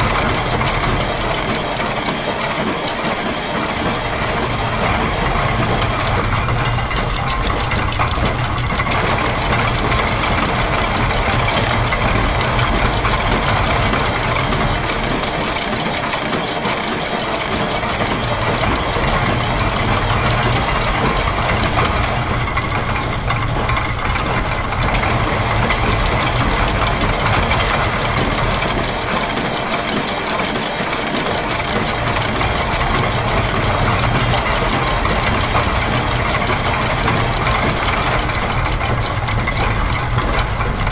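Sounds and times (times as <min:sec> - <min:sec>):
factory machine din: 0:00.0 - 0:40.9
gear and ratchet clatter: 0:00.0 - 0:40.9.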